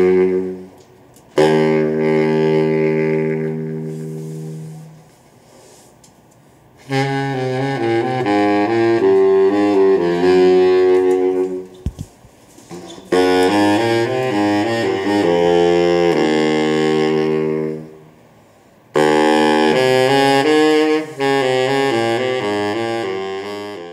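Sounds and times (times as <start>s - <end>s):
saxophone ensemble playing chords: 0.0s - 5.2s, 6.8s - 11.8s, 13.0s - 23.9s.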